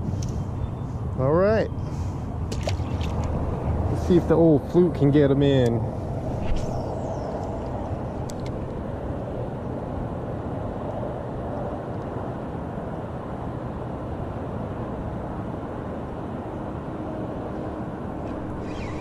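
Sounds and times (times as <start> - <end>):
distant highway traffic rumble: 0.0 - 19.0.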